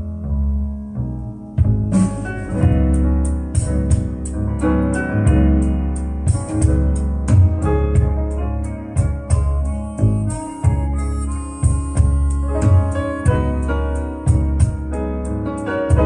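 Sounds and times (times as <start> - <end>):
piano ballad from vinyl record: 0.0 - 16.0
band with steady beat: 1.6 - 16.0.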